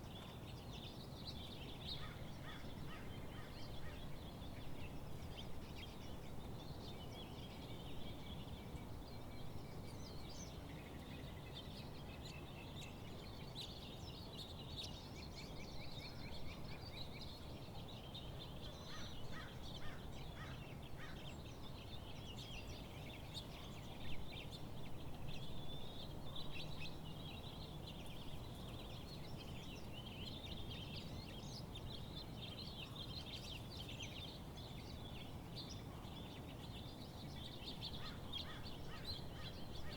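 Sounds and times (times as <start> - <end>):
wild birds chirping and trilling: 0.0 - 39.9.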